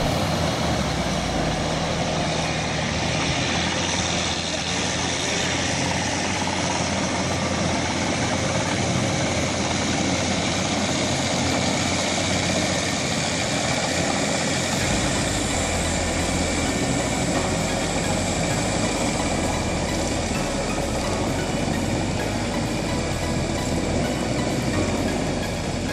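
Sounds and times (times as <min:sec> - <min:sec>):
engine running under load: 0:00.0 - 0:25.9
tiller churning flooded paddy: 0:00.0 - 0:25.9.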